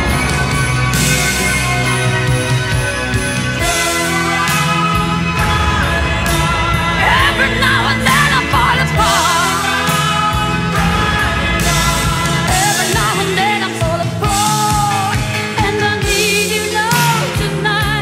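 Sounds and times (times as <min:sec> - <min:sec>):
drum beats: 0:00.0 - 0:18.0
power ballad with singing: 0:00.0 - 0:18.0.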